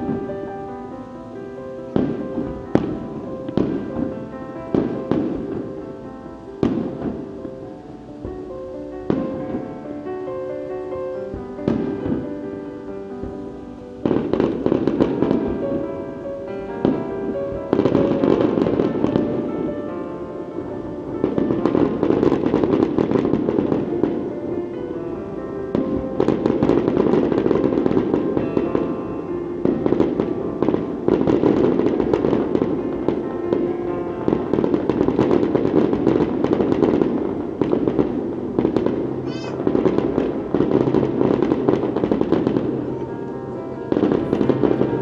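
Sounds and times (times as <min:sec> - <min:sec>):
fireworks bursting and crackling: 0:00.0 - 0:45.0
music playing: 0:00.0 - 0:45.0.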